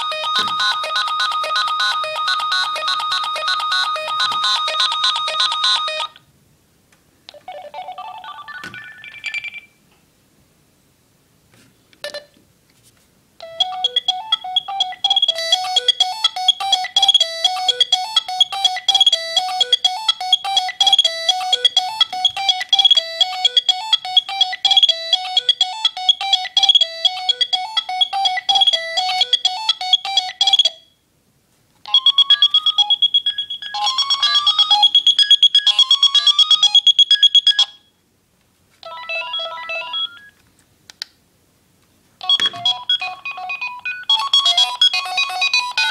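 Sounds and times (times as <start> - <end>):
beeping electronic ringtone melody: 0.0 - 6.2, 7.3 - 9.8, 13.4 - 30.9, 31.9 - 37.9, 38.8 - 40.4, 42.2 - 45.9.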